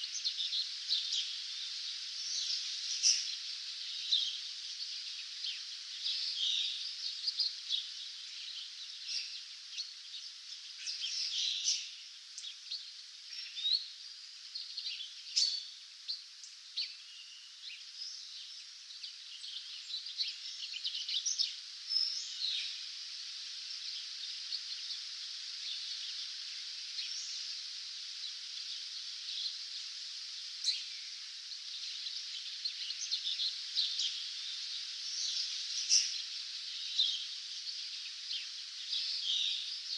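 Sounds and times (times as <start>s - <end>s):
songbirds chirping and trilling: 0.0s - 39.9s
steady high hiss: 0.0s - 39.9s.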